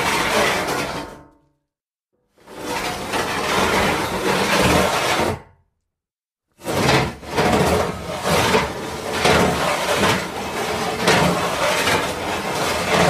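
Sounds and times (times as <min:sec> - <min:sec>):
metal sheets sliding and scraping: 0:00.0 - 0:01.2, 0:02.4 - 0:05.4, 0:06.6 - 0:13.0.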